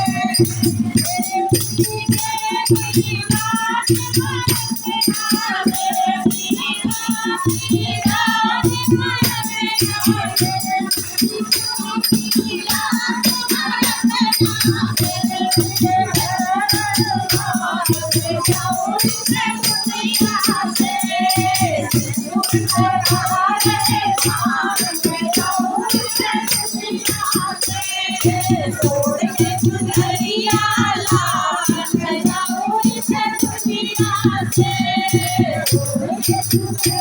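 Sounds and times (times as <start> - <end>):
devotional singing: 0.0 - 37.0
rattling hand percussion: 0.0 - 37.0.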